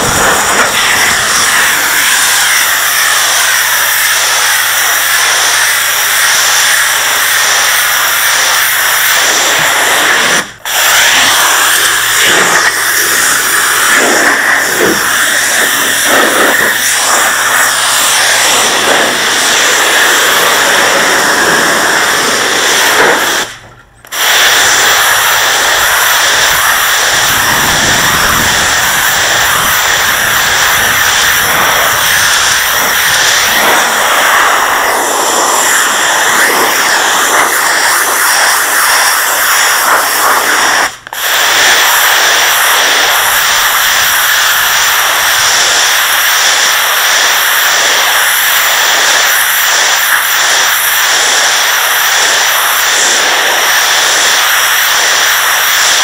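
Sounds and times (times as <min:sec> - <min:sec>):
pressure washer jet hissing: 0:00.0 - 0:56.0.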